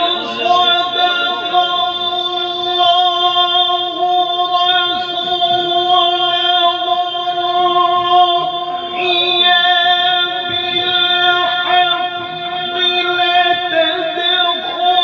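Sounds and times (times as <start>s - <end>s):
man reciting in long held note: 0.0s - 15.0s.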